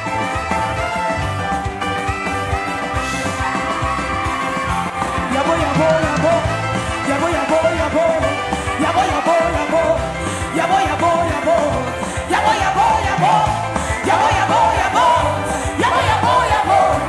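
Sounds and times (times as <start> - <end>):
backing band: 0.0 - 17.0
person singing: 3.2 - 17.0.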